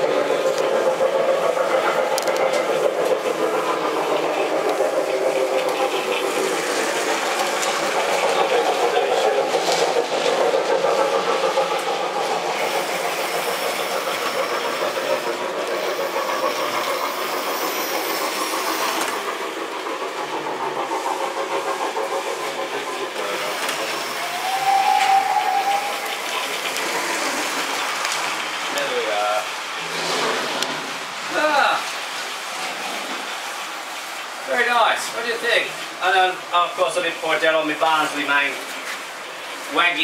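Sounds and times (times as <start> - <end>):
model train wheels clicking and whirring: 0.0 - 40.0.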